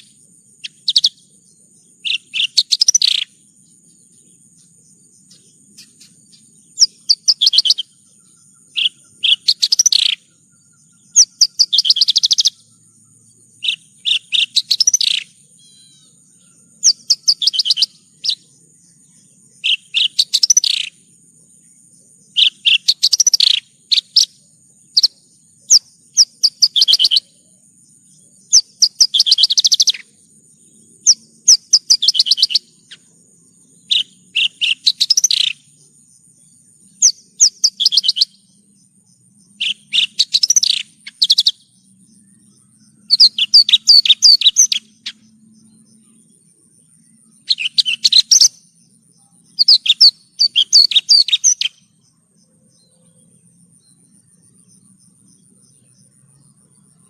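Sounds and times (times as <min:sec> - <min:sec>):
faint steady high tone: 0:00.0 - 0:57.0
lark chirping song: 0:00.0 - 0:57.0.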